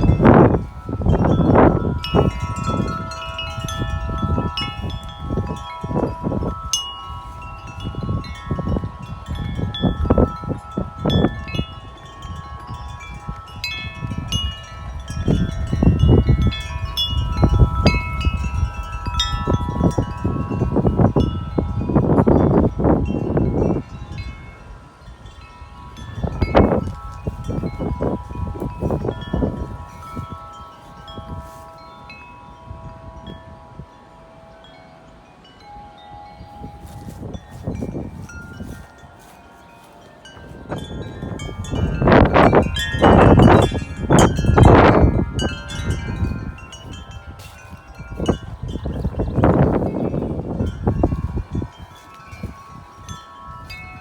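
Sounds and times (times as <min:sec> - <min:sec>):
wind buffeting microphone: 0:00.0 - 0:54.0
wind chimes ringing: 0:00.0 - 0:54.0.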